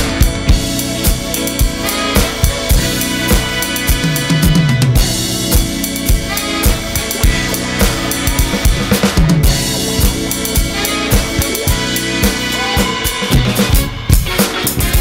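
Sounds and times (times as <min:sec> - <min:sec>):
electronic drum kit beat: 0:00.0 - 0:15.0
funk band music: 0:00.0 - 0:15.0.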